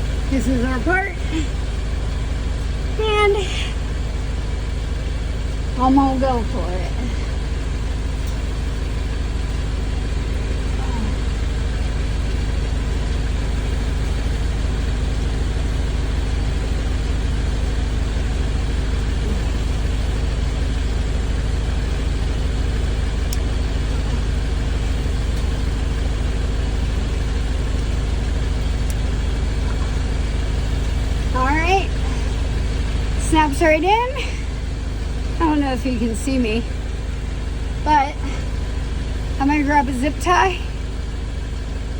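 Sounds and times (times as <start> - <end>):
low engine-like rumble: 0.0 - 41.9.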